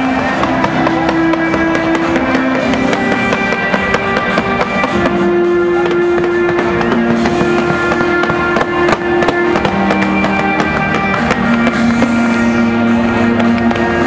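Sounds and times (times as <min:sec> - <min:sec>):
fireworks crackling and popping: 0:00.0 - 0:14.0
loud music with held notes: 0:00.0 - 0:14.0.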